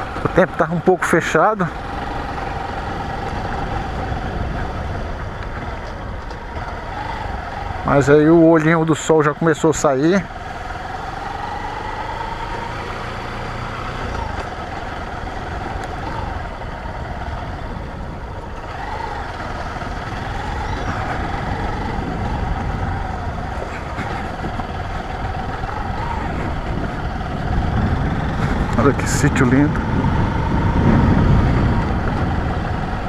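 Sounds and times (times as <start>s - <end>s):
low road rumble: 0.0s - 33.0s
vehicle engine running: 0.0s - 33.0s.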